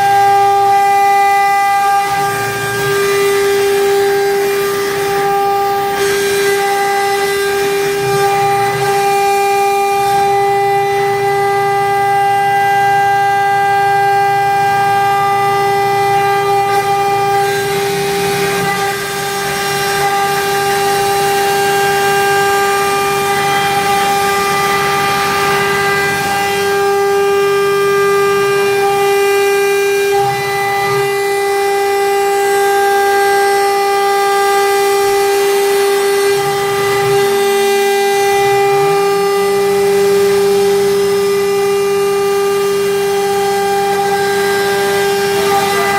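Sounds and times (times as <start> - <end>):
low motor tones: 0.0 - 45.9
router spindle whine: 0.0 - 45.9.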